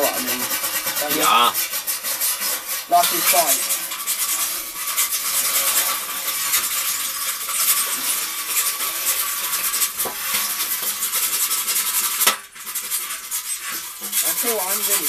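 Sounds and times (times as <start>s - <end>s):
hand sanding metal: 0.0s - 15.0s.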